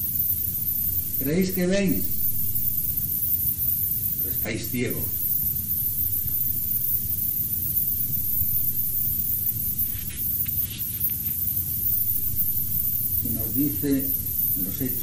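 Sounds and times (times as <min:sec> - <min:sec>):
low hum: 0:00.0 - 0:15.0
steady hiss: 0:00.0 - 0:15.0.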